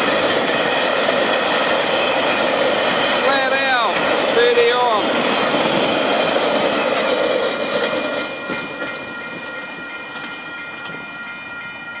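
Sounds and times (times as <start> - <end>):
freight train rumbling past: 0.0 - 12.0
train wheels whining on rails: 0.0 - 12.0.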